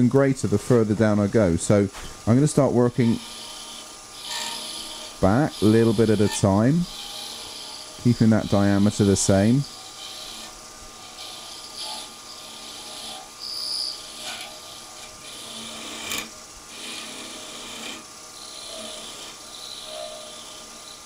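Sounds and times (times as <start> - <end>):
lathe tool scraping wood: 0.0 - 21.0.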